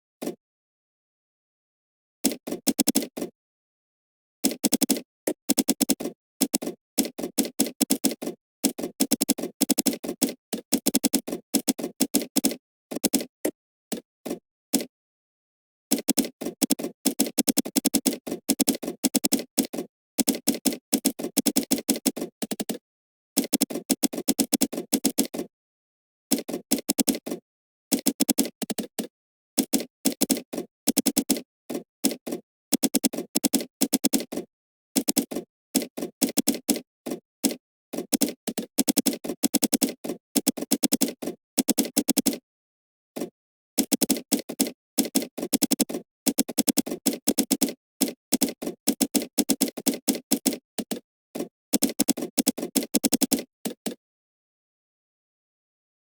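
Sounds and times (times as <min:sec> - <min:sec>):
computer keyboard typing: 0:02.4 - 0:03.3, 0:04.5 - 0:13.3, 0:15.9 - 0:22.8, 0:23.4 - 0:25.5, 0:26.3 - 0:42.4, 0:43.2 - 0:54.0.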